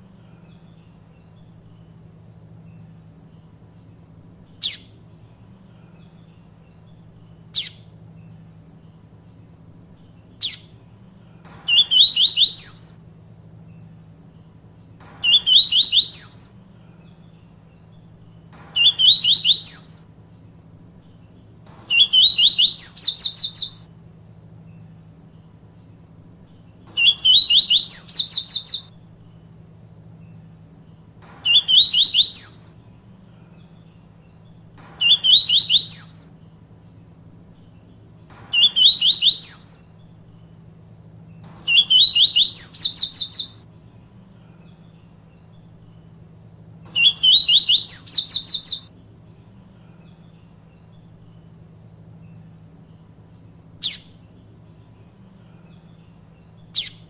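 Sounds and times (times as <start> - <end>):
bird singing rapid high notes: 0.2 - 57.0.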